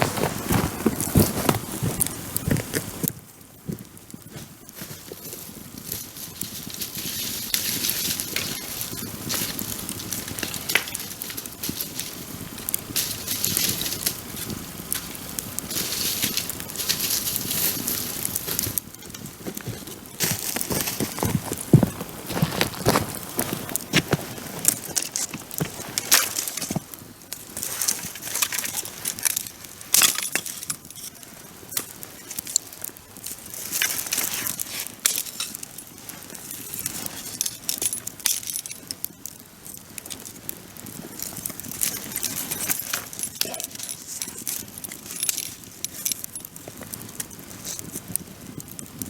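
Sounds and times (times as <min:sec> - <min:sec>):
bonfire crackling and popping: 0:00.0 - 0:49.0
soft fire hiss: 0:00.0 - 0:49.0.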